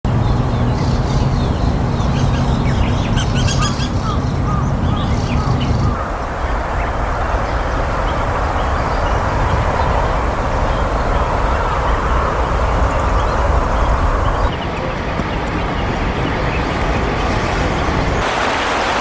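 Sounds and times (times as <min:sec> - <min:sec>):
outdoor background noise: 0:00.0 - 0:19.0
low hum: 0:00.1 - 0:18.2
small birds chirping: 0:00.1 - 0:18.2.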